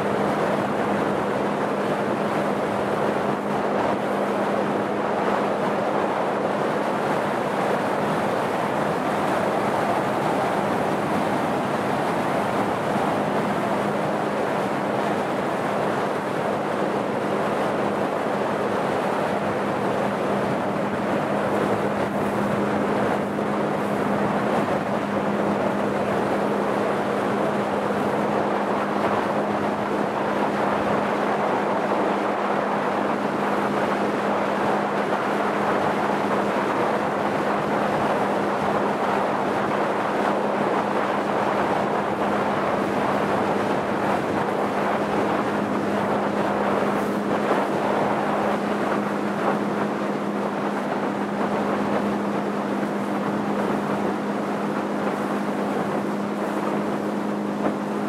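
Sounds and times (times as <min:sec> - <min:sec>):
motorboat engine hum: 0:00.0 - 0:58.0
water rushing along hull: 0:00.0 - 0:58.0
wind on microphone: 0:00.0 - 0:58.0.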